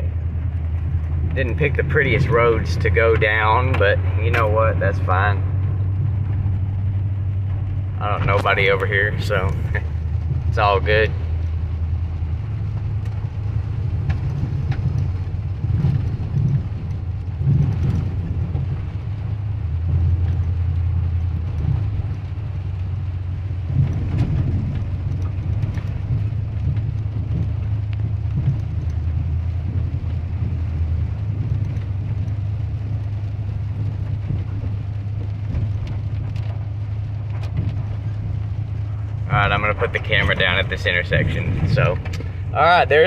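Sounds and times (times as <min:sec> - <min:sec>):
car engine and tyres droning: 0:00.0 - 0:43.0.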